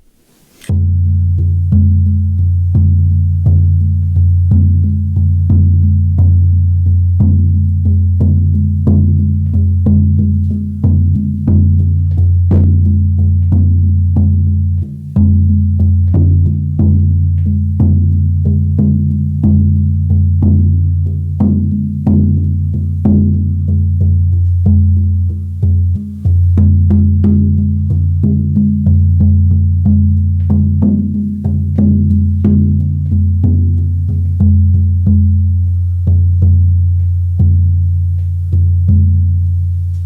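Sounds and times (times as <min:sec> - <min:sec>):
deep frame drum beat: 0:00.0 - 0:40.0.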